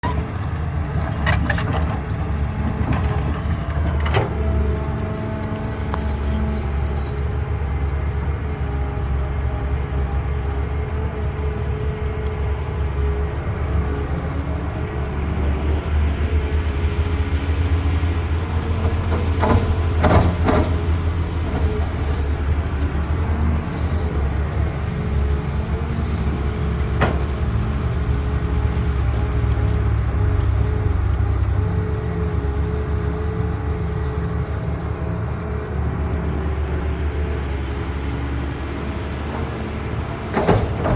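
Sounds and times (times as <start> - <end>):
heavy diesel machinery droning: 0.0 - 40.9.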